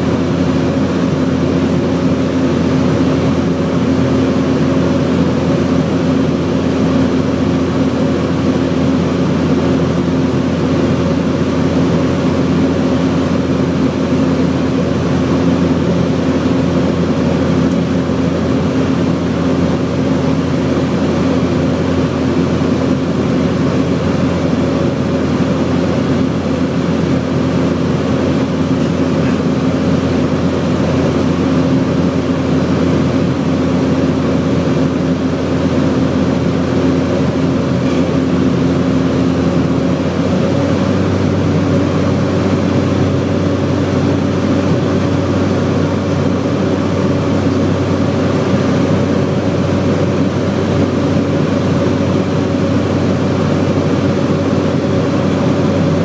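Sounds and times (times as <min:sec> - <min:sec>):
turboprop engine droning: 0:00.0 - 0:56.0.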